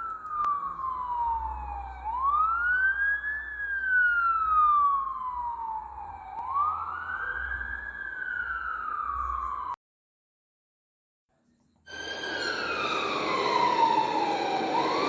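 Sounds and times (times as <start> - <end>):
ambulance siren wailing: 0.0 - 9.8, 11.9 - 15.0.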